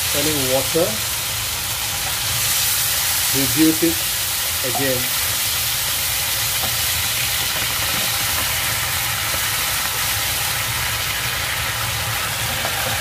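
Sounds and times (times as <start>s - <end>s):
sauce sizzling and bubbling in a pan: 0.0s - 13.0s.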